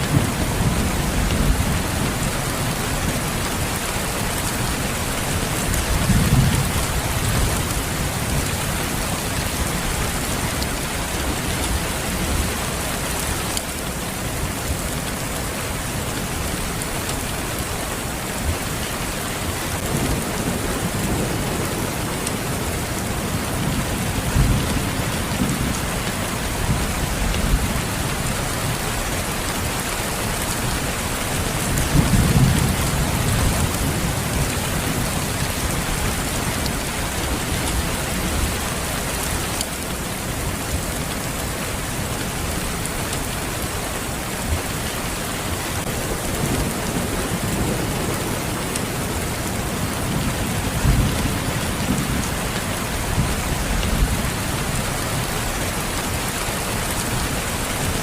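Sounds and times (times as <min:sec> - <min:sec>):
heavy rain hissing: 0:00.0 - 0:58.0.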